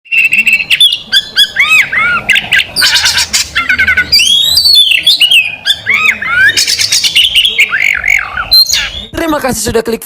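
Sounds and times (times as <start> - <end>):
songbird singing: 0.1 - 9.2.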